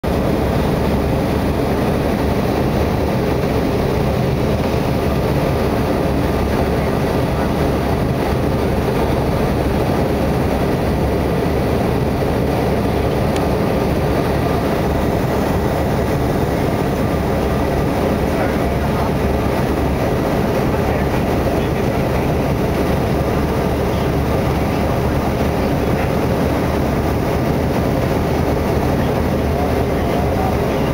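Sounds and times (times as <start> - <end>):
aircraft cabin engine noise: 0.0 - 30.9.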